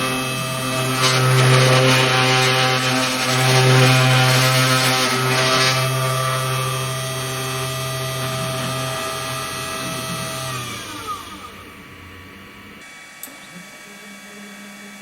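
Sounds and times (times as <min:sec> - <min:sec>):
cutting noise: 0:00.0 - 0:12.8
spindle motor whine: 0:00.0 - 0:12.8.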